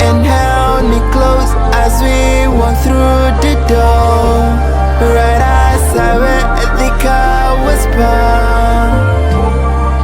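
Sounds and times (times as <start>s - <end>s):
slow held melody: 0.0s - 10.0s
sustained bass line: 0.0s - 10.0s.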